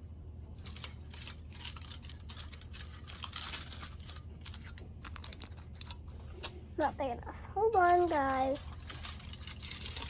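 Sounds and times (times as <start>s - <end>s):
crinkling of crisp sheet: 0.5s - 10.0s.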